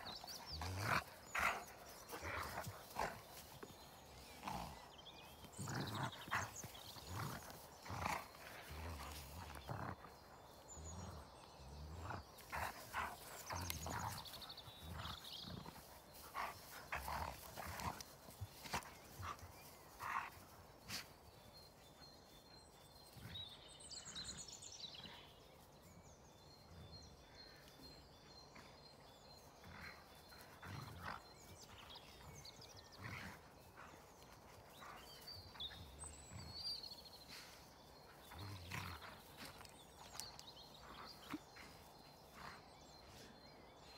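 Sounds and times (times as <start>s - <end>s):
dogs growling and grunting: 0.0s - 43.9s.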